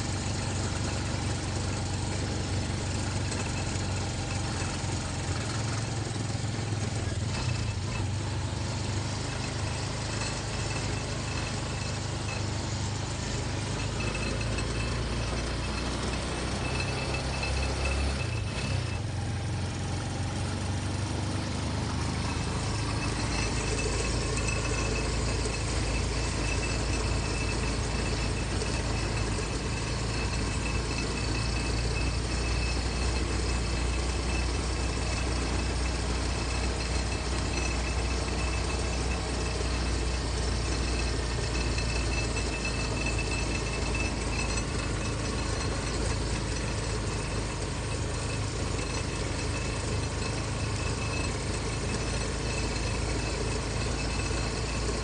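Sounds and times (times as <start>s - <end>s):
vehicle engine and tyre rumble: 0.0s - 55.0s
thin steady high tone: 9.2s - 20.1s, 21.3s - 55.0s.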